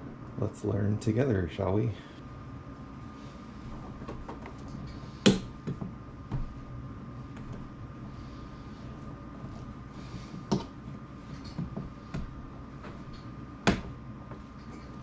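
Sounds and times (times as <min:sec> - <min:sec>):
faint whine: 0:00.0 - 0:15.0.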